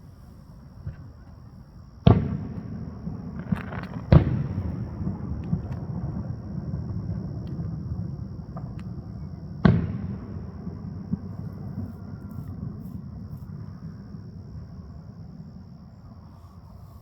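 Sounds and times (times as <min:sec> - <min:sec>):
firework booms with rumble: 0:02.0 - 0:16.3.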